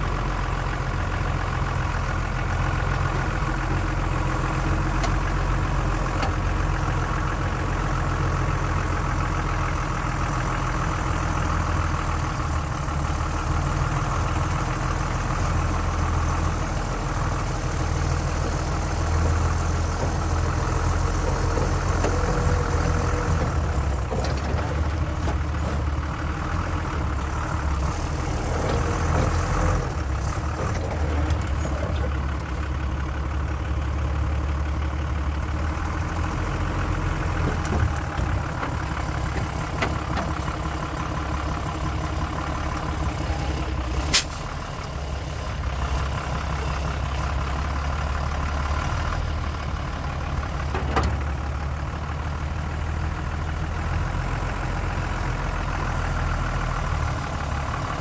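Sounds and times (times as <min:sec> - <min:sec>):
diesel truck engine at low revs: 0:00.0 - 0:58.0.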